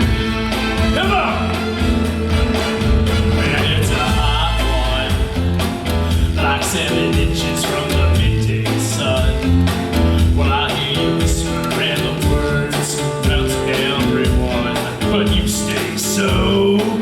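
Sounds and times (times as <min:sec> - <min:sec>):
live rock and roll song: 0:00.0 - 0:17.0.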